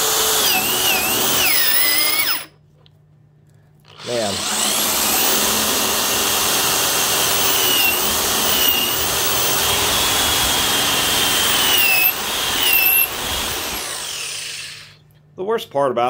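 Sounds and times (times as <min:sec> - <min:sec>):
electric drill boring into wood: 0:00.0 - 0:02.5, 0:03.9 - 0:15.0.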